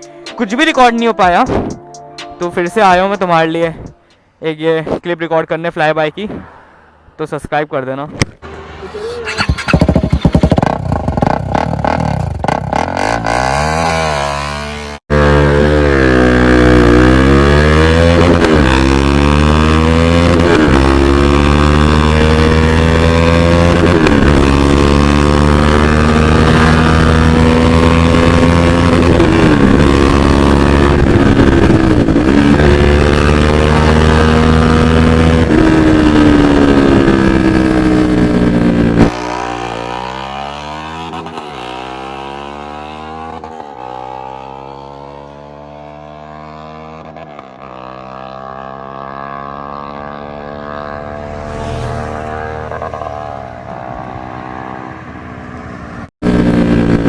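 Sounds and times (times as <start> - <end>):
motorcycle engine accelerating: 8.4 - 57.0.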